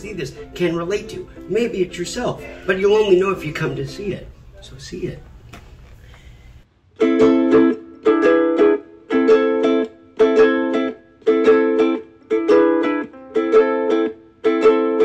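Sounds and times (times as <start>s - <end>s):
ukulele strumming chords: 0.0s - 4.4s, 6.9s - 15.0s.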